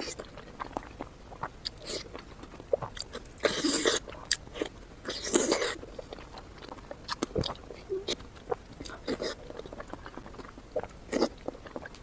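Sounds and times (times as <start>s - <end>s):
chewing with wet smacks: 0.0s - 12.0s.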